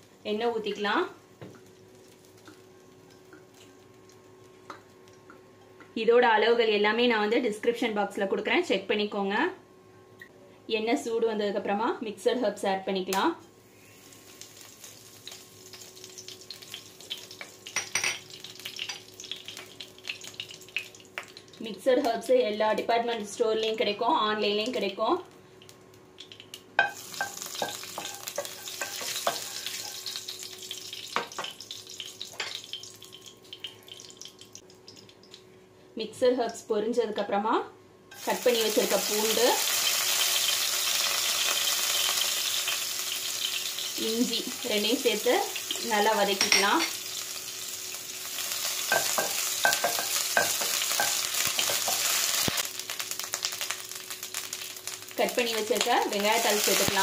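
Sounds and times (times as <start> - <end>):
herbs sizzling in oil: 0.0 - 5.4, 13.1 - 35.5, 38.1 - 57.0.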